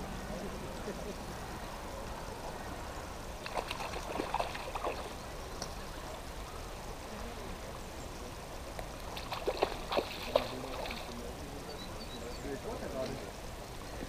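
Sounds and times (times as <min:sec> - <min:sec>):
distant talk: 0:00.0 - 0:14.0
outdoor background hiss: 0:00.0 - 0:14.0.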